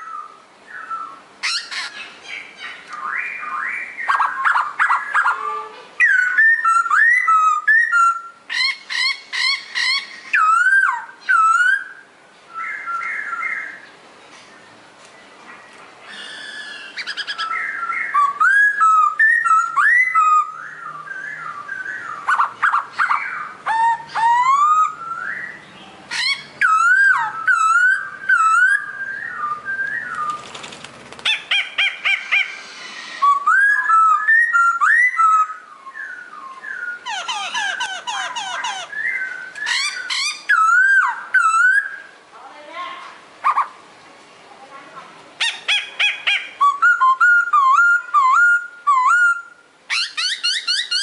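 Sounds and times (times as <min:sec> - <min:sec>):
songbird singing: 0:00.0 - 0:51.0.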